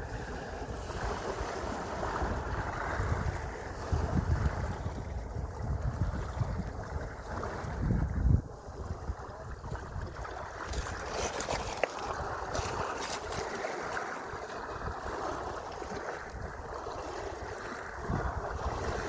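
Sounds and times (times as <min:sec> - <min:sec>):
sea water splashing: 0:00.0 - 0:19.0
wind buffeting microphone: 0:00.0 - 0:19.0.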